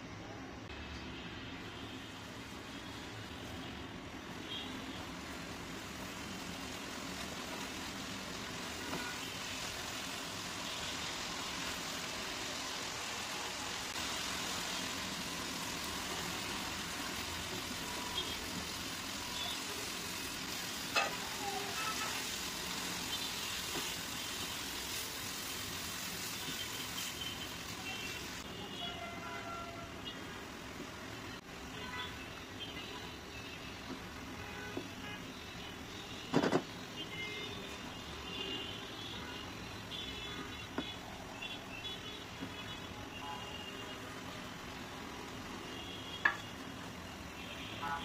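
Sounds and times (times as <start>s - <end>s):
onions sizzling in a wok: 0.6s - 48.0s.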